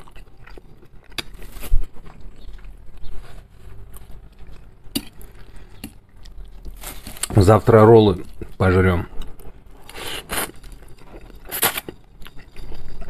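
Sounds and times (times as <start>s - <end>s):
chewing noodles: 0.0s - 13.0s.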